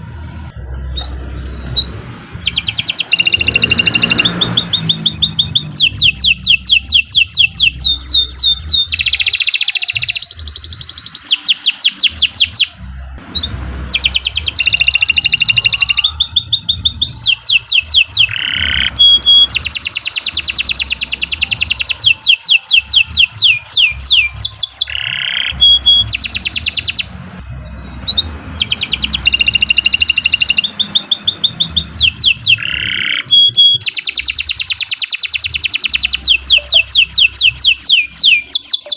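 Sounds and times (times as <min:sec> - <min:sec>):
canary singing trills: 0:00.6 - 0:38.9.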